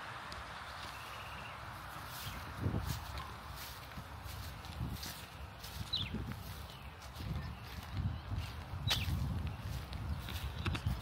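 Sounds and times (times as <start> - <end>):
footsteps on dry grass: 0.2 - 11.0.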